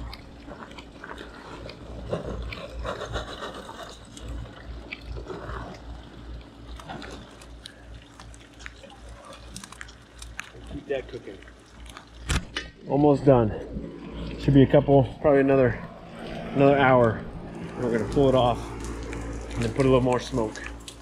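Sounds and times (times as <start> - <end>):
rain falling and dripping: 0.0 - 2.1, 4.1 - 15.1, 16.8 - 21.0.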